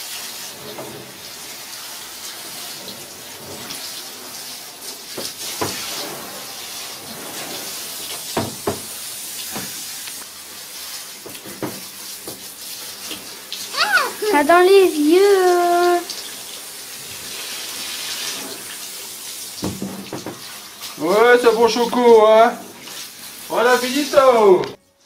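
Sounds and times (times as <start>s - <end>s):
shower head spraying water: 0.0s - 24.8s.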